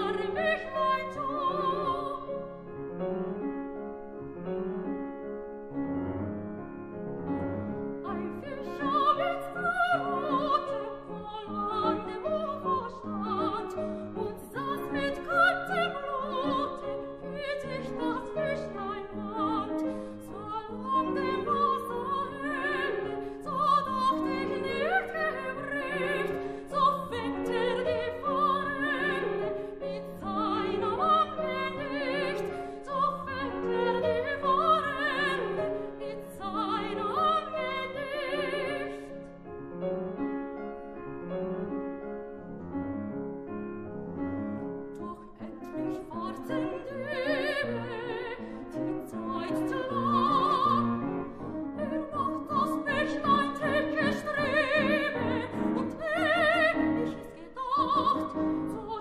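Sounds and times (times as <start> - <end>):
soprano singing operatically: 0.0 - 2.6, 7.9 - 39.3, 44.8 - 59.0.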